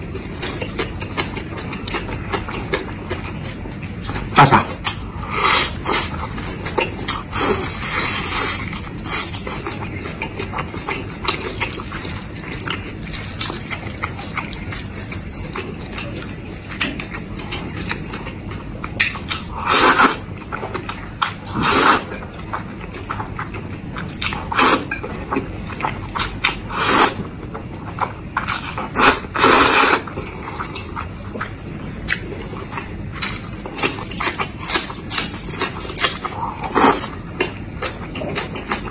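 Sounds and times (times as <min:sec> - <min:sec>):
wet chewing: 0:00.0 - 0:38.9.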